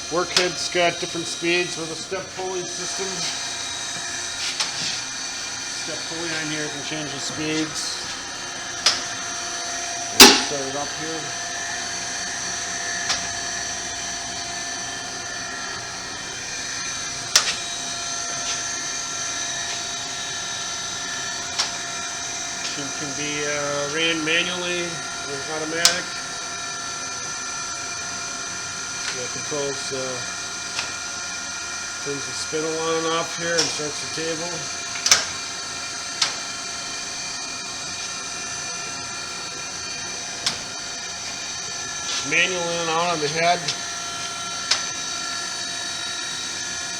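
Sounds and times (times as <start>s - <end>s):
grinder motor whine: 0.0s - 46.9s.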